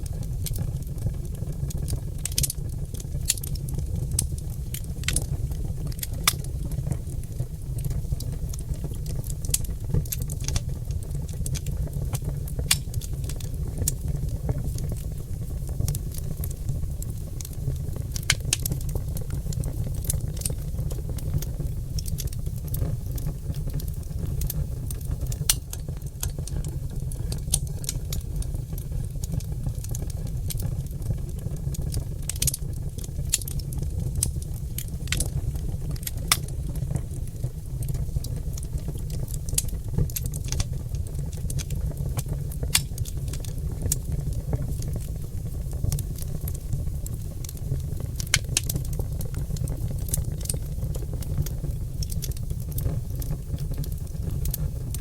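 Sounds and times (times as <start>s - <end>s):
fire low rumble: 0.0s - 55.0s
wood fire crackling and popping: 0.0s - 55.0s.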